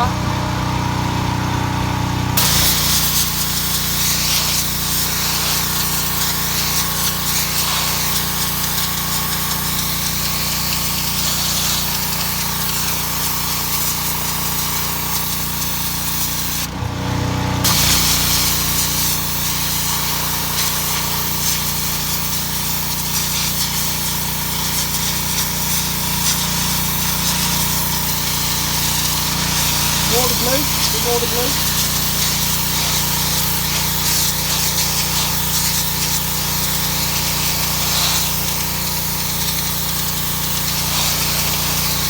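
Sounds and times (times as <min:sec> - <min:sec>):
pressure washer engine hum: 0:00.0 - 0:42.0
water jet hissing against brick: 0:02.4 - 0:16.7, 0:17.6 - 0:42.0.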